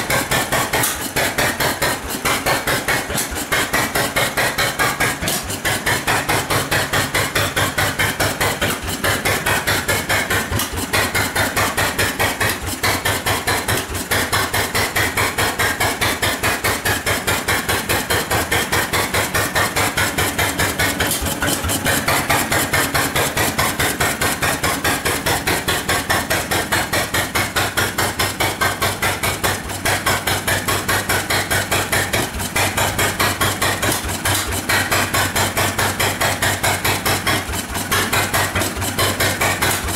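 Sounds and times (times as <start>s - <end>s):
stationary engine knocking: 0.0s - 39.9s.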